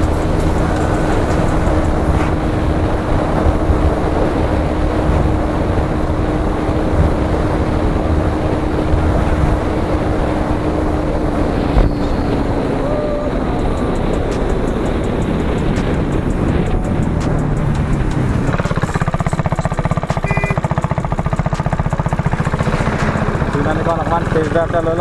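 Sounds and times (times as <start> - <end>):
motorcycle engine hum: 0.0 - 25.0.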